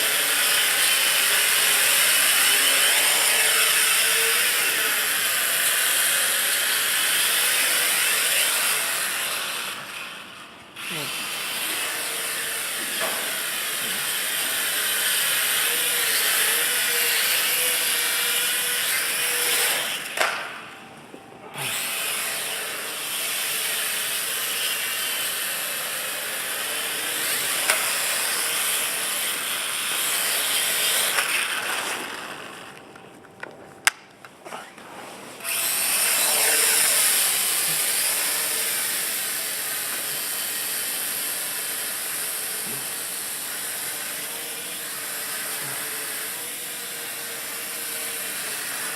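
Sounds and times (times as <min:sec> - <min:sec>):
quadcopter motors buzzing: 0:00.0 - 0:20.8, 0:21.4 - 0:32.8, 0:35.4 - 0:48.9.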